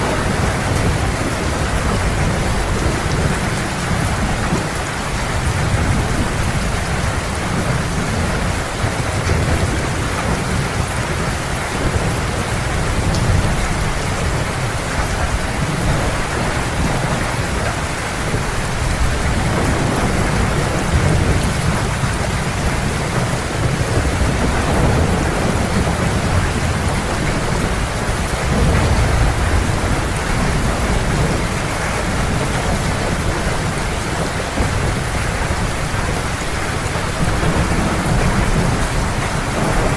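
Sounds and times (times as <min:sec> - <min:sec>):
heavy rain: 0:00.0 - 0:39.9
low thunder rumble: 0:00.0 - 0:39.9.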